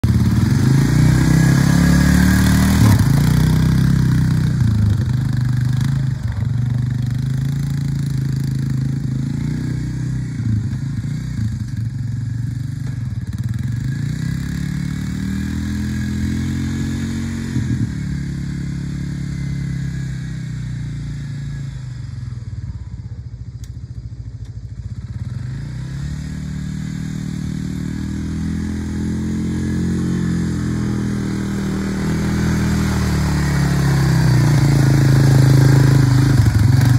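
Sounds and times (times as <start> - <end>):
quad bike engine revving: 0.0 - 23.7, 24.7 - 36.9.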